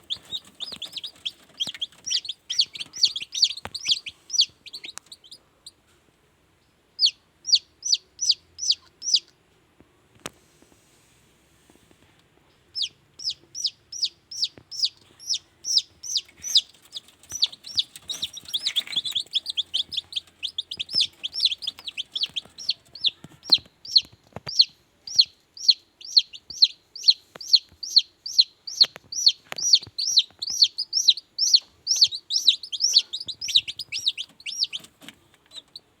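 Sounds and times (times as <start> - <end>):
chicks peeping: 0.0 - 6.0, 6.9 - 9.4, 12.5 - 36.0.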